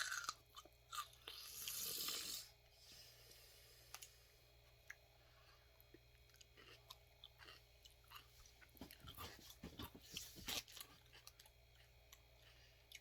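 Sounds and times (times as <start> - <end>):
chewing raw vegetable crunches: 0.0 - 2.4, 4.7 - 13.0.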